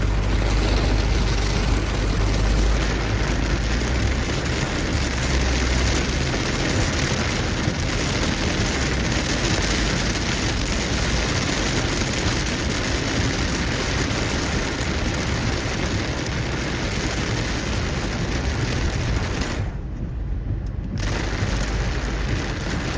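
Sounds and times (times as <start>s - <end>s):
deep low rumble: 0.0s - 22.9s
heavy rain on a car: 0.0s - 22.9s
tyre and road noise: 0.0s - 22.9s.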